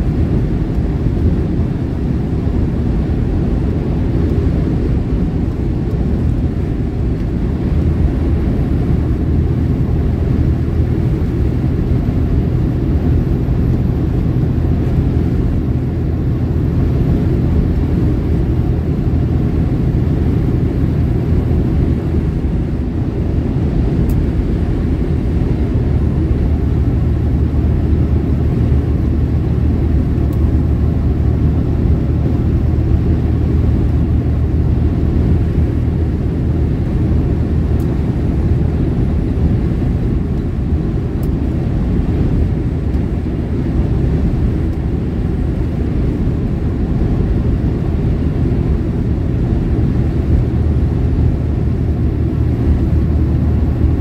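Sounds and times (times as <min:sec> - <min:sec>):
truck engine and tyres droning: 0:00.0 - 0:54.0.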